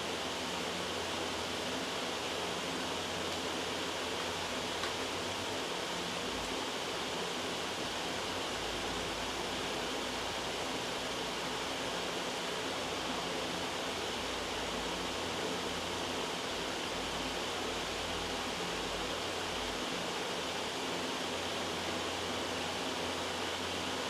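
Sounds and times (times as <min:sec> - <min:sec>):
white noise hiss: 0:00.0 - 0:24.0.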